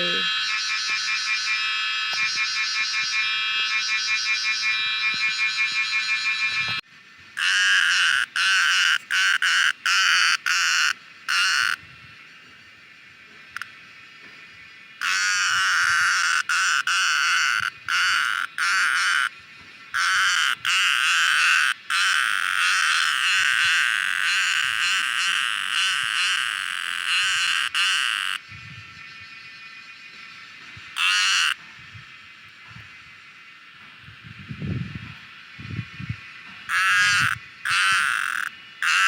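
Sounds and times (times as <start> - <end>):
cicada buzzing: 0.0 - 39.0.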